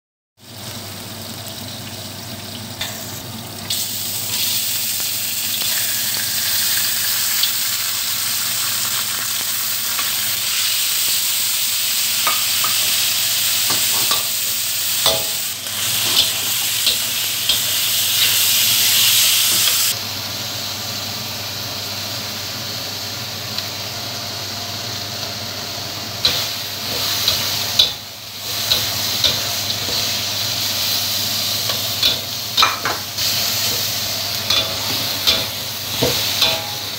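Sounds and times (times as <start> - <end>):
food sizzling in oil: 0.4 - 36.9.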